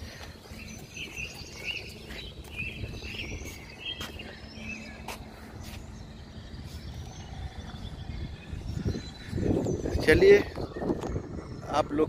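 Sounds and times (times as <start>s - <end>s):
low rumbling background: 0.0s - 12.0s
small birds chirping: 0.0s - 12.0s.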